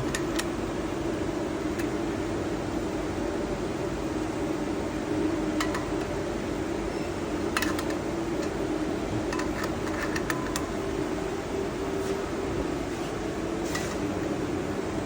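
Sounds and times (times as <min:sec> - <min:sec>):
machinery or fan humming: 0:00.0 - 0:15.0.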